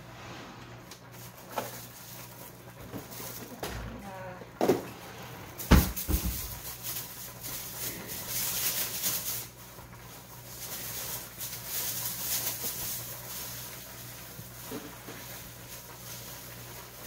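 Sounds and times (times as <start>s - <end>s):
plastic glove crinkling: 1.0s - 3.7s, 5.5s - 17.0s.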